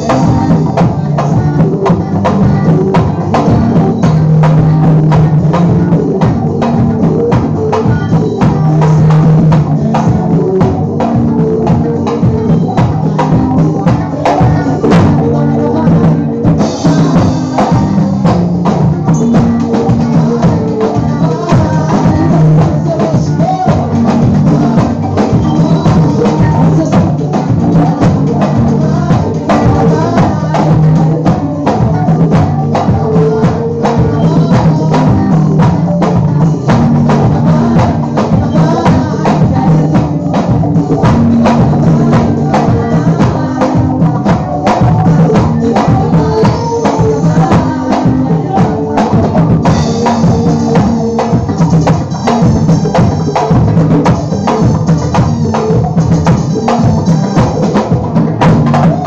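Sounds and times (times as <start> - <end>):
drum kit steady beat: 0.0 - 59.0
live band playing loudly: 0.0 - 59.0.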